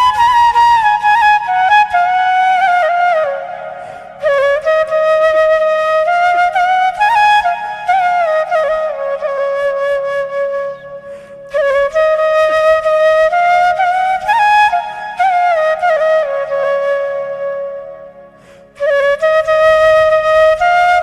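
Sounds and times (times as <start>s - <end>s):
solo flute slow melody: 0.0s - 21.0s.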